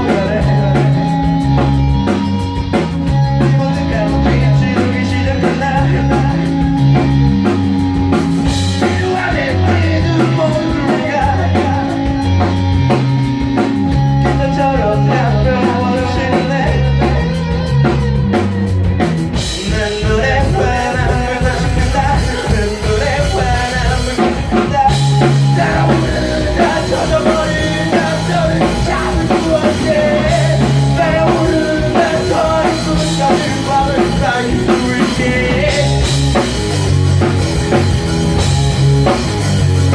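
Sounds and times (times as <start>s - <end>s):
person singing: 0.0s - 7.2s, 8.6s - 12.9s, 14.1s - 18.0s, 19.3s - 36.5s
bass guitar: 0.0s - 39.9s
drums: 0.0s - 39.9s
electric guitar: 0.0s - 39.9s.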